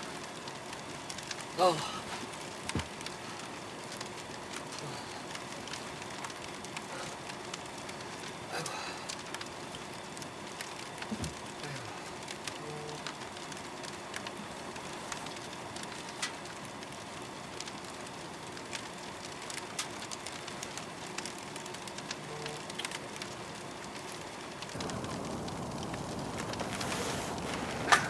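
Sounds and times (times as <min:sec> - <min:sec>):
firewood crackling and popping: 0:00.0 - 0:28.0
low hiss of fire: 0:00.0 - 0:28.0.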